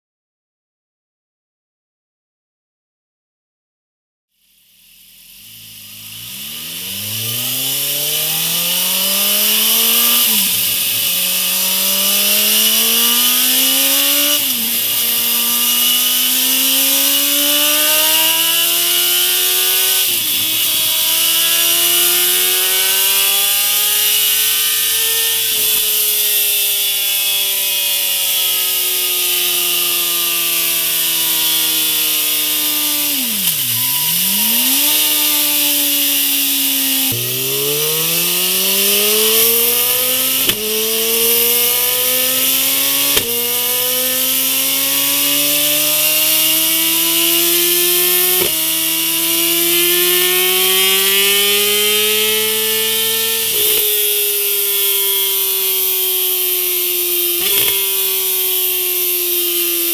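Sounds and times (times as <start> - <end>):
motorcycle engine revving on dyno: 4.4 - 59.9.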